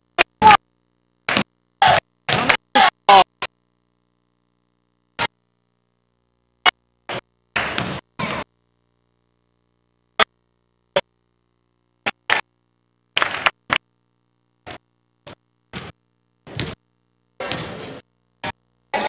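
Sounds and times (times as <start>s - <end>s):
basketball game sounds: 0.0s - 3.6s, 4.6s - 19.0s.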